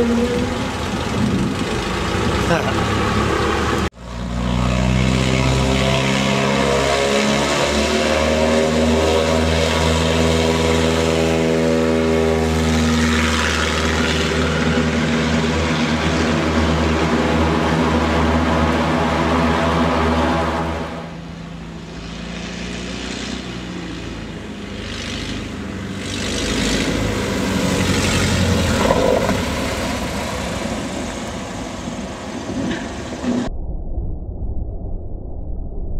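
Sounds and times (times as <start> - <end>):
small plane engine and propeller: 0.0 - 33.5.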